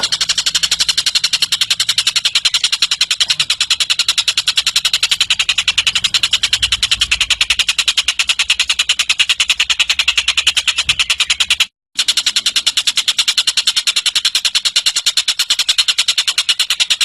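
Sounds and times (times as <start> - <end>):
bird singing rapid high trill: 0.0 - 11.7, 14.9 - 17.0.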